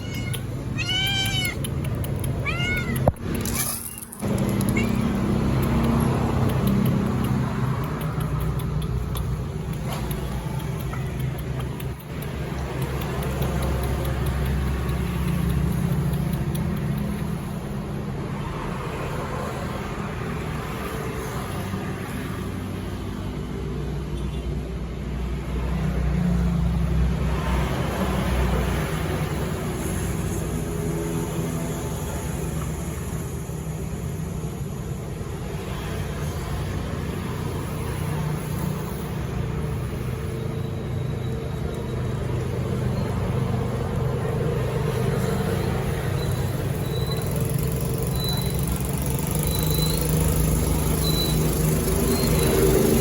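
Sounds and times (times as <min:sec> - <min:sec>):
road traffic rumble: 0:00.0 - 0:53.0
vehicles passing: 0:00.0 - 0:53.0.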